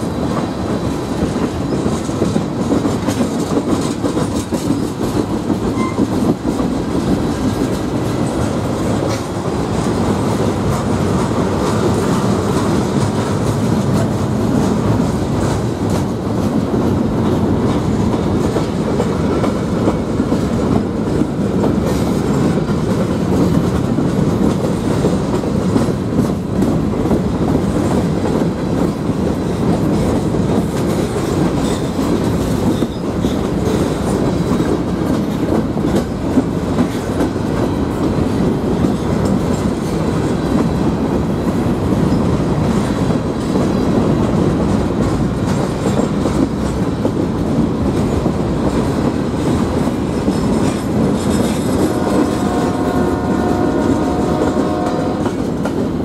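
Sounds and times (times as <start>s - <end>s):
clickety-clack over rail joints: 0.0s - 56.0s
freight train wheels rumbling: 0.0s - 56.0s.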